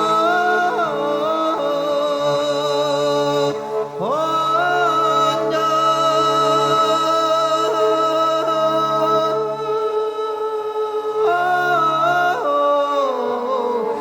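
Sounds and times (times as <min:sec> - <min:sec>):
voice holding sustained notes: 0:00.0 - 0:14.0.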